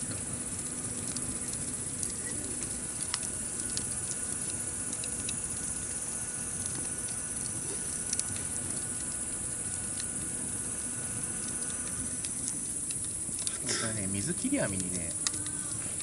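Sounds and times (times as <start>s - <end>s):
campfire hissing: 0.0s - 16.0s
fire crackles and pops: 0.0s - 16.0s.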